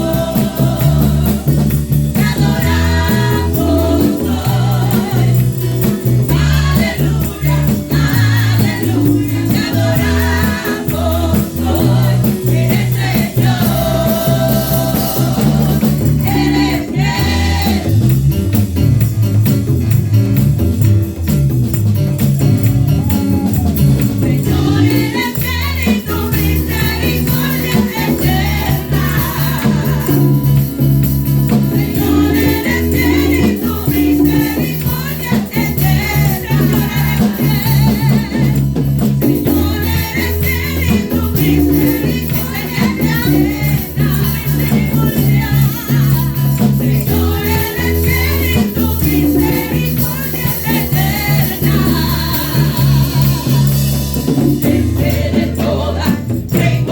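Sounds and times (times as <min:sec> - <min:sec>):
voices singing: 0:00.0 - 0:18.2, 0:22.6 - 0:56.9
gospel band playing: 0:00.0 - 0:56.9
shaking rattle: 0:00.0 - 0:56.9.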